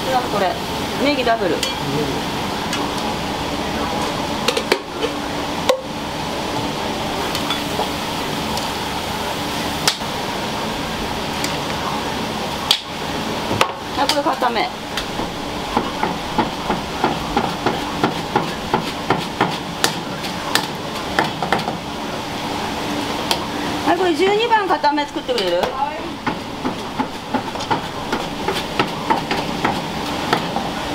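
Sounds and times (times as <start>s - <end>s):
cooking noise: 0.0s - 30.9s.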